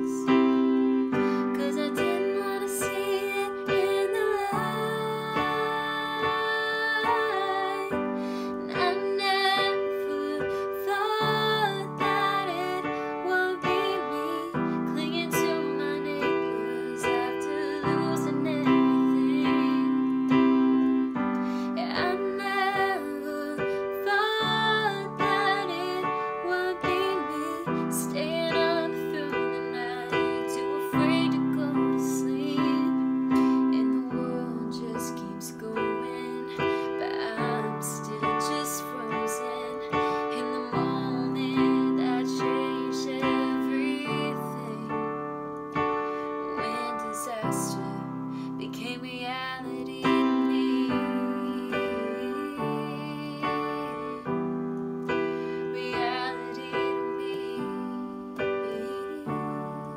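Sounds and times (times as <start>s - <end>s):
piano chords: 0.0s - 59.9s
woman singing a ballad: 0.0s - 59.9s.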